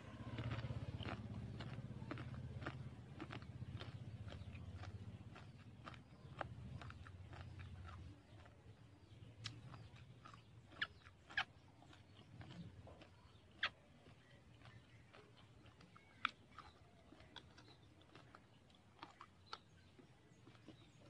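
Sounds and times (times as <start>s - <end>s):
chewing crisp chips: 0.0s - 21.0s.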